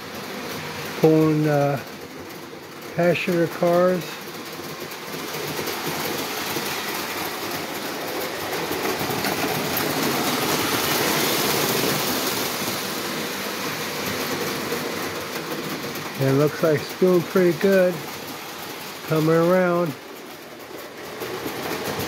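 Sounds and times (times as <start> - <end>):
model train rumbling on rails: 0.0 - 22.0.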